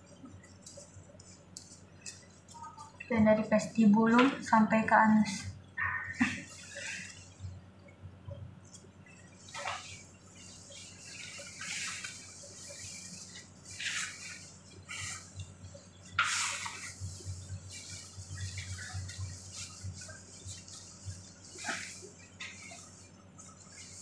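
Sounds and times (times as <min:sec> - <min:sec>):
cloth and plastic rustling: 0:00.0 - 0:05.5, 0:06.2 - 0:07.6, 0:08.6 - 0:24.0
low room hum: 0:00.0 - 0:24.0.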